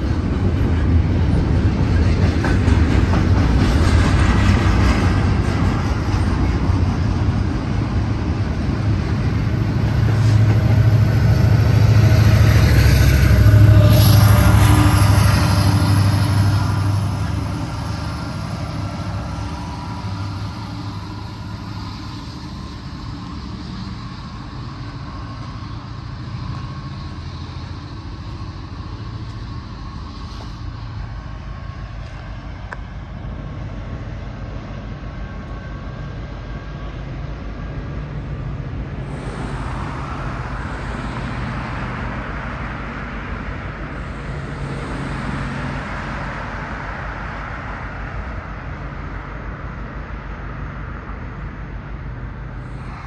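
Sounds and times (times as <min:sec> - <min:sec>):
diesel locomotives passing: 0:00.0 - 0:53.0
road traffic noise: 0:00.0 - 0:53.0.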